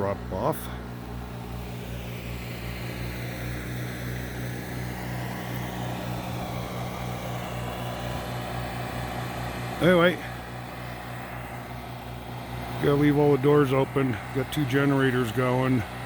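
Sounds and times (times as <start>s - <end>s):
portable generators running: 0.0s - 16.0s.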